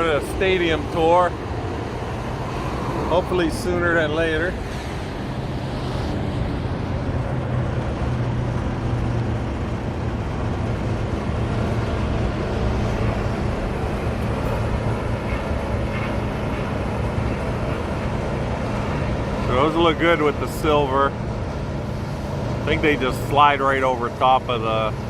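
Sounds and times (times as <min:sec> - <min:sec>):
low engine hum: 0:00.0 - 0:25.0
passing traffic: 0:00.0 - 0:25.0.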